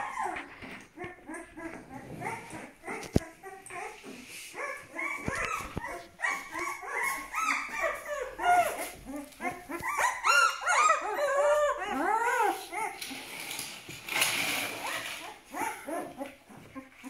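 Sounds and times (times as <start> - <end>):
puppies whining and squealing: 0.0 - 13.6, 14.6 - 17.0.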